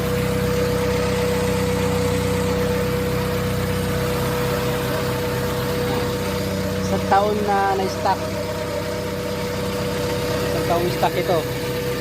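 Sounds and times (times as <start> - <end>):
car engine idling: 0.0 - 12.0
steady whine: 0.0 - 12.0.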